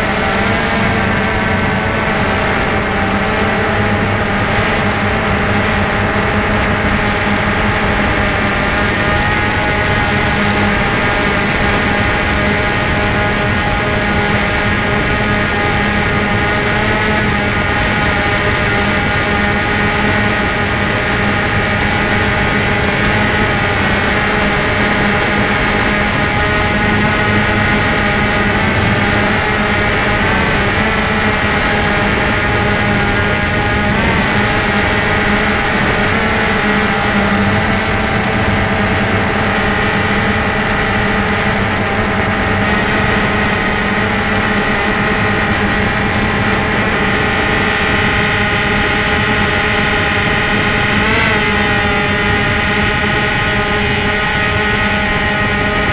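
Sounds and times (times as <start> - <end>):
drone propellers whining: 0.0 - 55.9.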